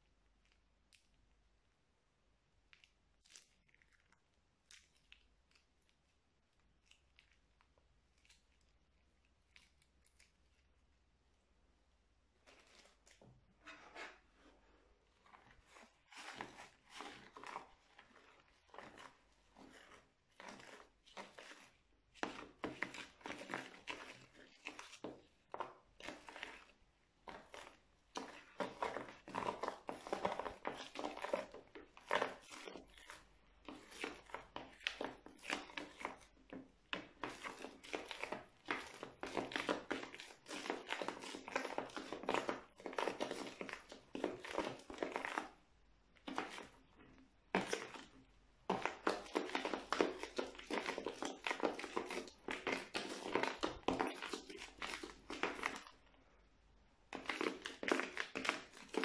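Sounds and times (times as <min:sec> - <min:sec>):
spoon stirring crunchy slime: 0:00.0 - 0:59.0.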